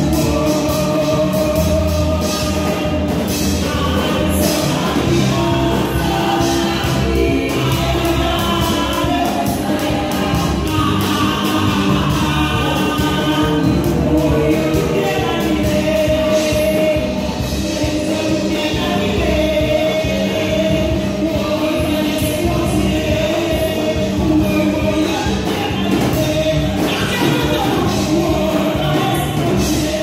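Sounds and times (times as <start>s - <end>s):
singers performing a hymn: 0.0s - 30.0s.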